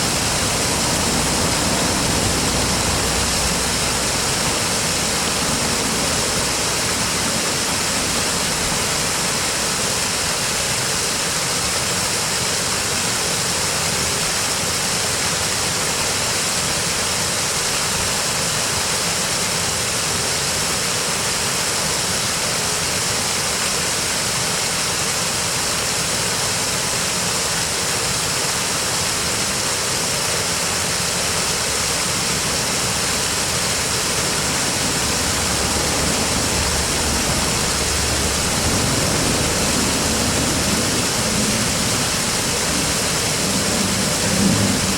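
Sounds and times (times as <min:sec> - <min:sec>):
fast-flowing river rushing: 0:00.0 - 0:44.9.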